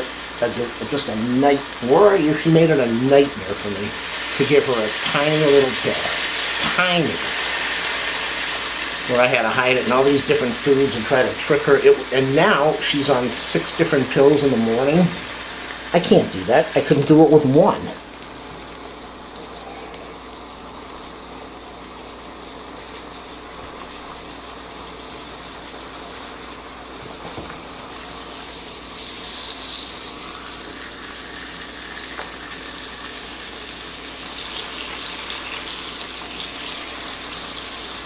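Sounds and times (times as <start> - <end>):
meat sizzling on a grill: 0.0 - 38.0.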